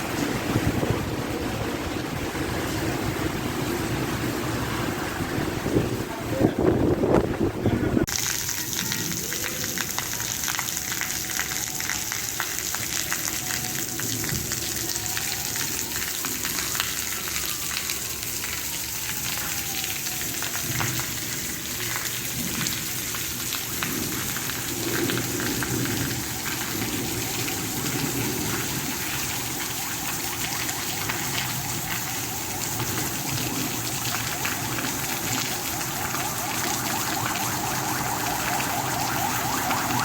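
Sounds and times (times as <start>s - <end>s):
steady rain patter: 0.0s - 40.0s.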